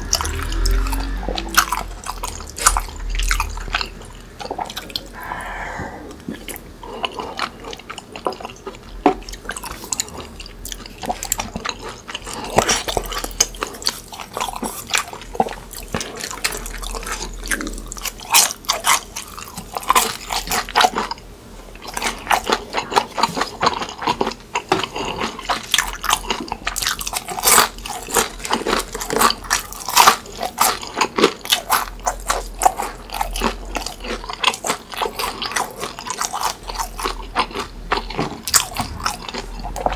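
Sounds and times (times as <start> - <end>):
chewing with wet mouth clicks: 6.2 - 21.2, 21.8 - 39.9.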